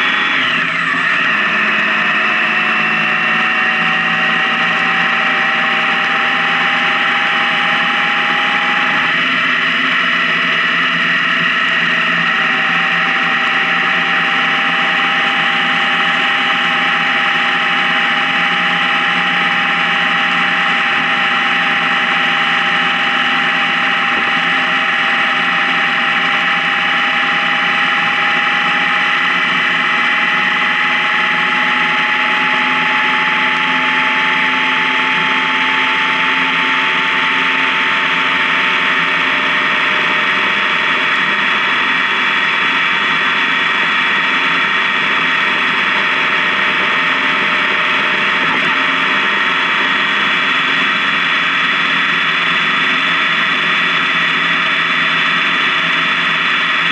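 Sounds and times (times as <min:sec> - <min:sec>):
motorcycle engine droning: 0:00.0 - 0:56.9
wind and road noise: 0:00.0 - 0:56.9.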